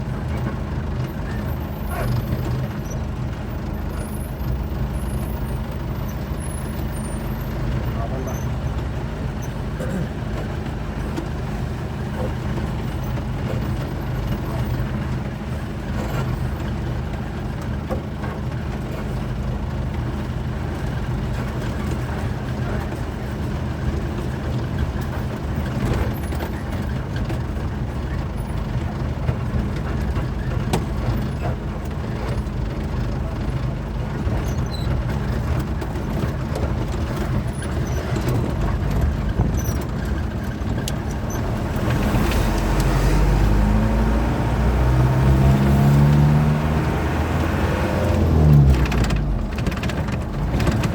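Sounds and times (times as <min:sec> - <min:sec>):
road and traffic noise: 0:00.0 - 0:50.9
truck diesel engine running: 0:00.0 - 0:50.9.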